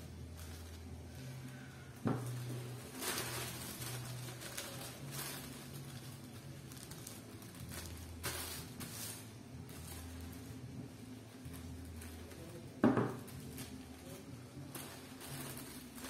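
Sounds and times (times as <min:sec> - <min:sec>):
low steady hum: 0:00.0 - 0:16.0
tissue paper rustling: 0:00.0 - 0:16.0.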